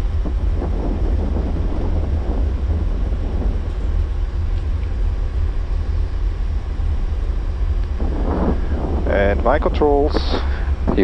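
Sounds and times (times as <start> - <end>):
low rumble of airliner on runway: 0.0 - 11.0.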